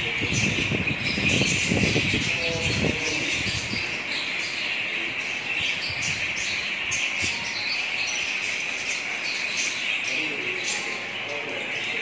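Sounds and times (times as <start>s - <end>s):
flock of budgerigars chirping: 0.0s - 12.0s.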